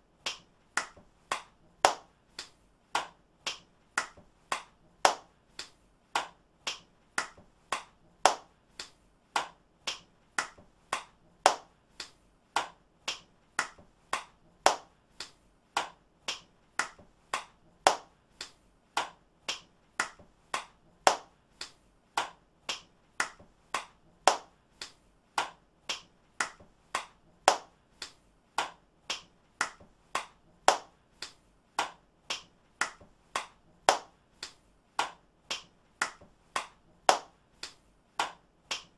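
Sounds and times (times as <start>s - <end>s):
hand claps: 0.1s - 38.9s.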